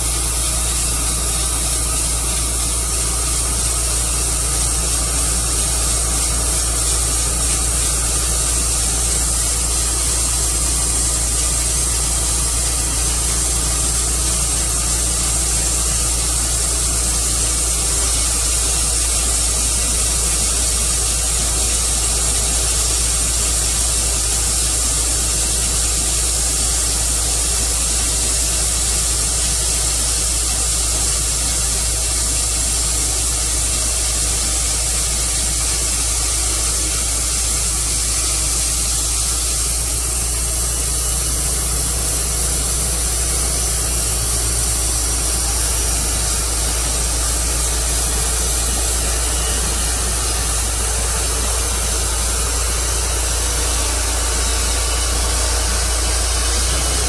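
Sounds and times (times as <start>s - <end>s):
band sawmill running: 0.0s - 57.0s.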